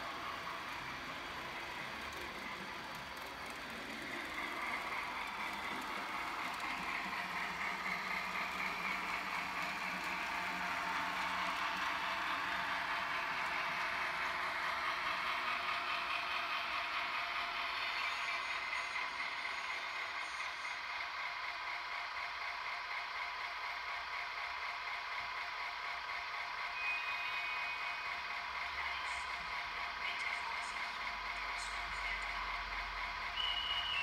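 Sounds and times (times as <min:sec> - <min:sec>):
diesel engine sound from small speaker: 0:00.0 - 0:34.0.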